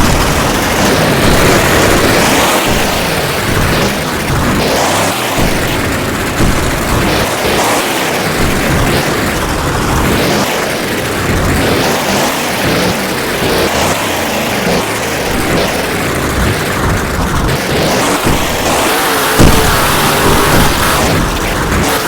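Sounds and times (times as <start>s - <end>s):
monster truck engine drone: 0.0s - 22.0s.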